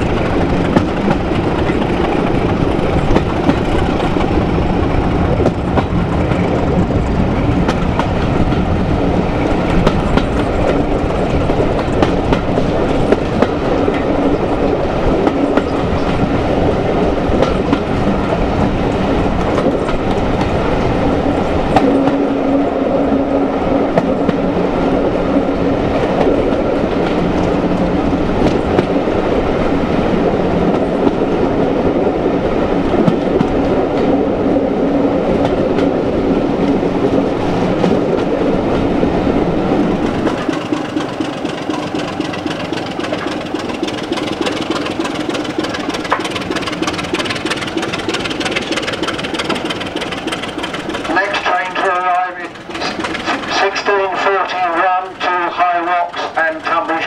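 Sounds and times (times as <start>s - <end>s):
wheels clacking over rail joints: 0.0s - 22.3s, 23.9s - 29.3s, 35.3s - 57.0s
faint locomotive engine drone: 0.0s - 57.0s
train rumble and rush: 0.0s - 57.0s.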